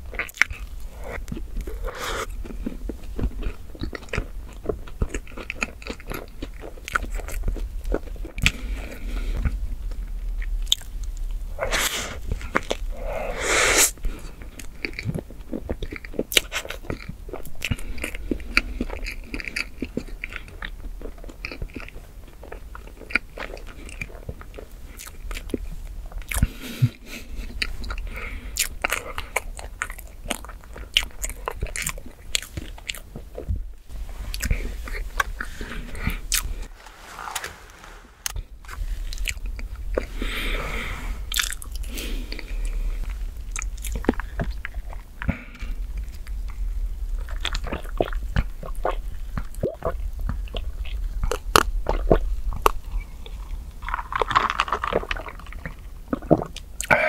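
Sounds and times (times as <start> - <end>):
wet chewing and mouth smacks: 0.0 - 12.9, 14.1 - 36.7, 38.2 - 40.2, 41.3 - 56.9.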